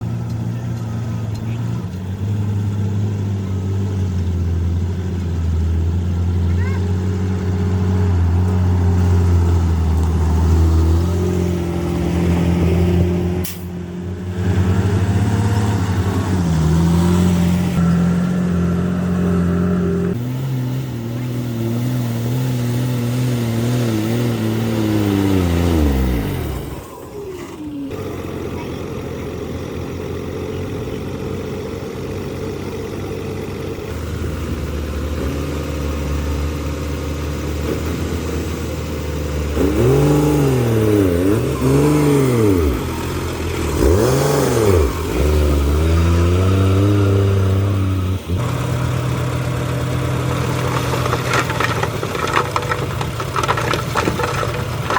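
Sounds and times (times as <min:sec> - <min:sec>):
heavy machine engines revving: 0:00.0 - 0:54.9.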